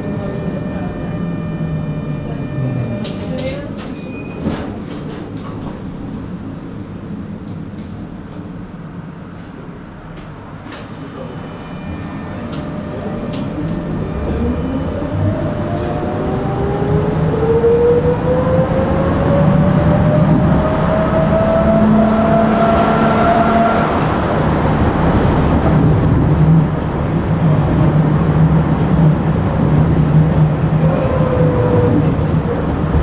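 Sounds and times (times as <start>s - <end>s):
tram motor whine: 0.0s - 33.0s
tram wheels rumbling on track: 0.0s - 33.0s.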